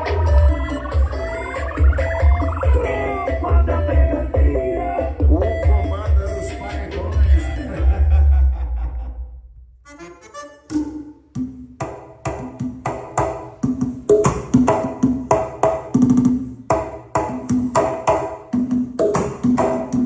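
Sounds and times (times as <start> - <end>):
music with fast percussive beat: 0.0 - 8.5, 10.7 - 20.0.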